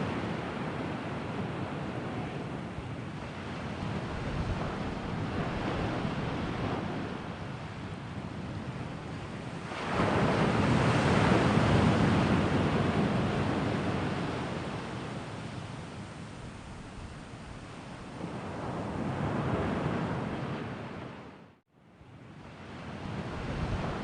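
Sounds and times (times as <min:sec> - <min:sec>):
sea waves washing on shore: 0:00.0 - 0:21.2, 0:22.4 - 0:24.0.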